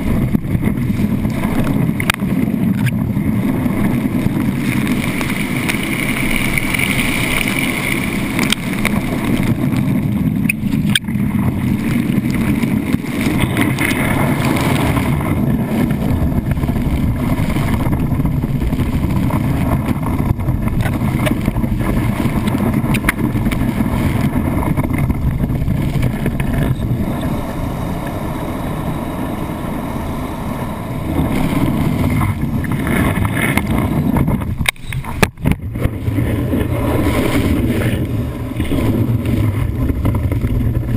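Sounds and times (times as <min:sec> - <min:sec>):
rush of water and spray: 0:00.0 - 0:40.9.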